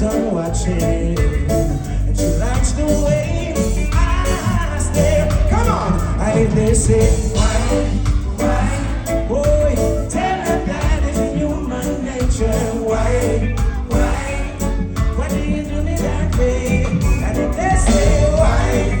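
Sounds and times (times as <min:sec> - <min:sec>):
heavy bass line: 0:00.0 - 0:19.0
live reggae band: 0:00.0 - 0:19.0
person singing lead vocal: 0:00.0 - 0:19.0.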